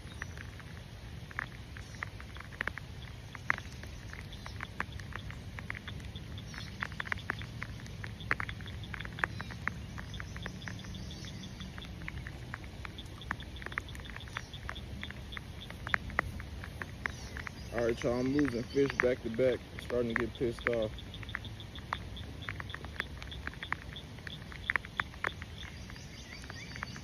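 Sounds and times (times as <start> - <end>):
raindrops pattering: 0.0 - 27.0.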